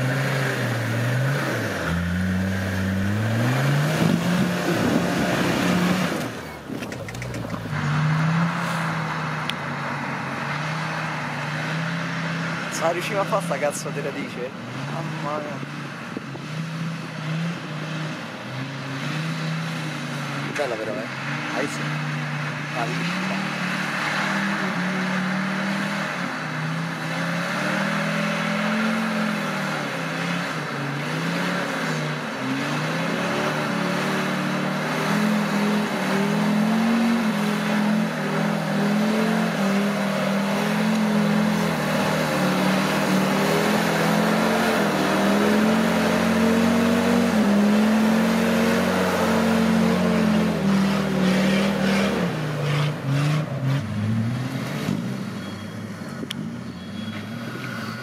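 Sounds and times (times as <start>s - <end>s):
engine revving under load: 0.0s - 58.0s.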